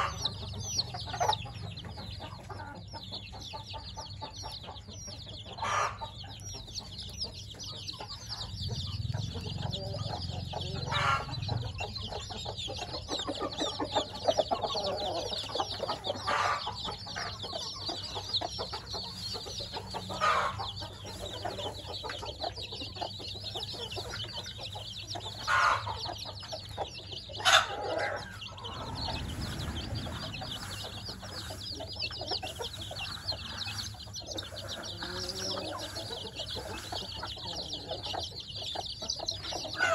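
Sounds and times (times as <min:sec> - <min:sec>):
chicks peeping: 0:00.0 - 0:39.9
louder chick calls: 0:00.0 - 0:39.9.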